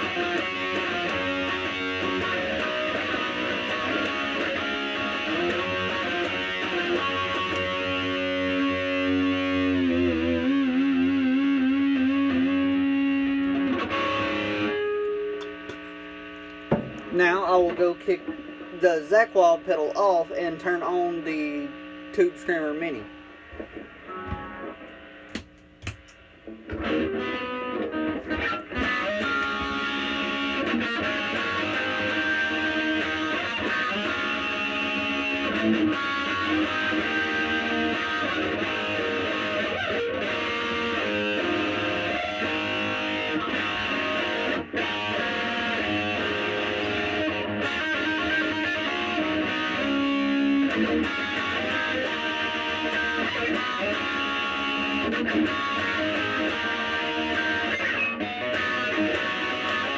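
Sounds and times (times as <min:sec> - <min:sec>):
high-gain electric guitar: 0:00.0 - 0:59.9.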